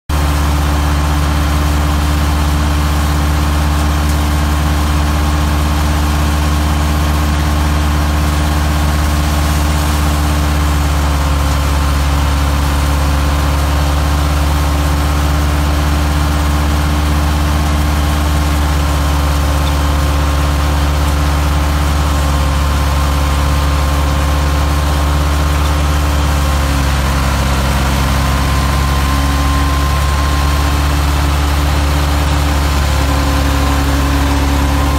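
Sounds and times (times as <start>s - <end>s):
tractor diesel engine droning: 0.1s - 34.9s.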